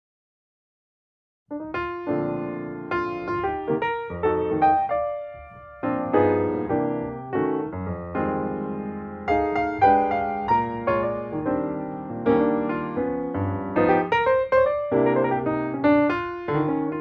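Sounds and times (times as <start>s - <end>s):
piano music: 1.5s - 17.0s.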